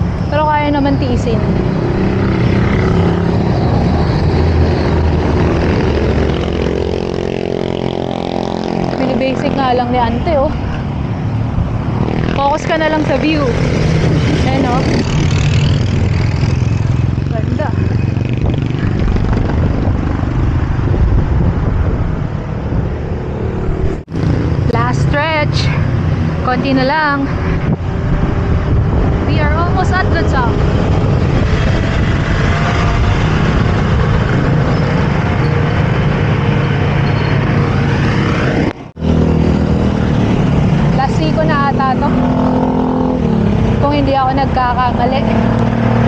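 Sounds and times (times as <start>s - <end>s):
vehicle engine passing: 0.0s - 46.0s
wind buffeting microphone: 0.0s - 46.0s.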